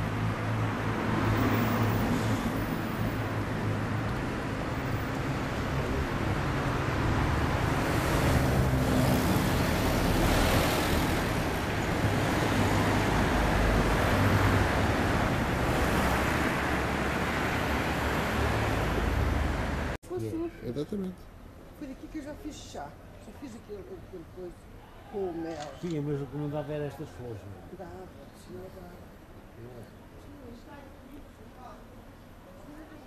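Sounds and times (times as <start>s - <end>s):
street traffic rumble: 0.0s - 33.0s.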